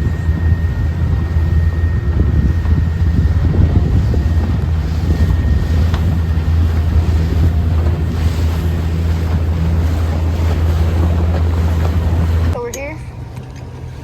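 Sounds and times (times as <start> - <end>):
motorboat engine droning: 0.0 - 14.0
wind buffeting microphone: 0.0 - 14.0.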